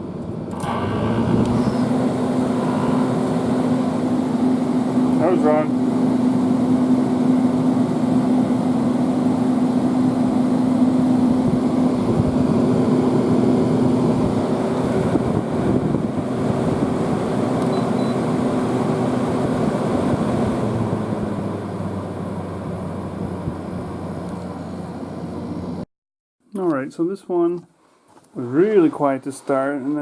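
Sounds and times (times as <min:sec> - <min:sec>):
air conditioner fan humming: 0:00.0 - 0:25.8.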